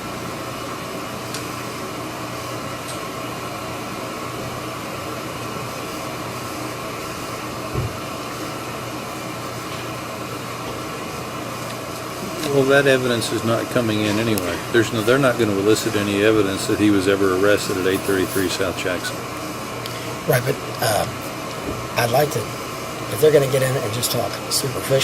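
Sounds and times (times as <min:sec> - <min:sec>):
room hum and hiss: 0:00.0 - 0:25.0.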